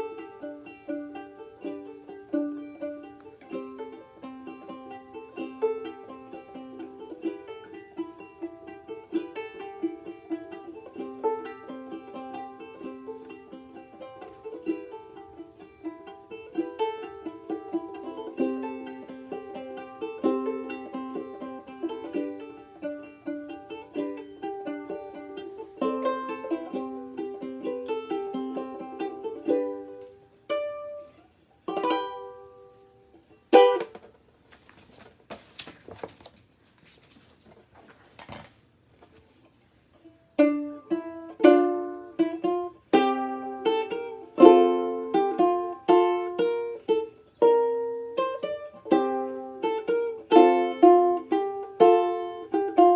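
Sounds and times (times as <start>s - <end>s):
banjo-ukulele picking melody: 0.0s - 34.3s, 39.3s - 52.9s.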